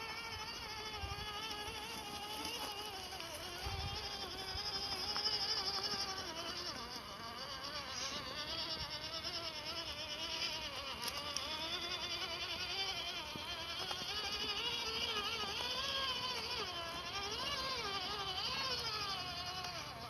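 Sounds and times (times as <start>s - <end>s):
toy car motor whining: 0.0s - 20.0s.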